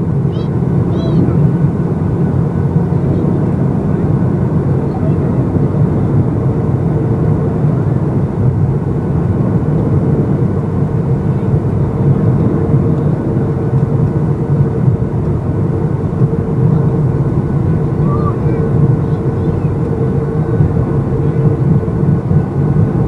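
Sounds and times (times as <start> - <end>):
airplane cabin rumble: 0.0 - 23.0
faint steady hum: 0.0 - 23.0.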